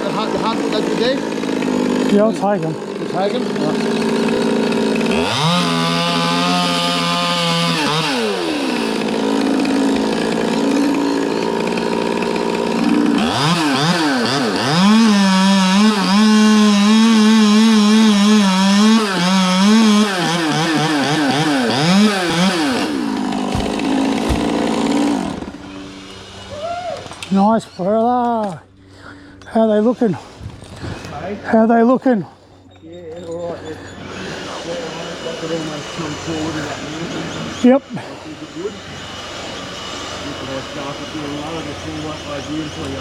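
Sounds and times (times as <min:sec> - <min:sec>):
chainsaw revving and idling: 0:00.0 - 0:28.5, 0:33.5 - 0:43.0
chainsaw cutting wood: 0:00.0 - 0:28.6, 0:33.8 - 0:43.0.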